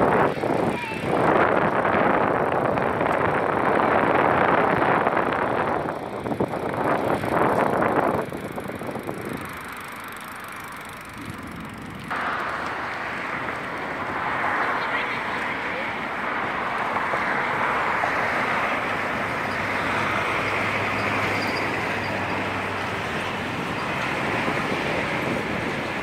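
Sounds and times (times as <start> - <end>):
bicycles rolling over brick paving: 0.0 - 26.0.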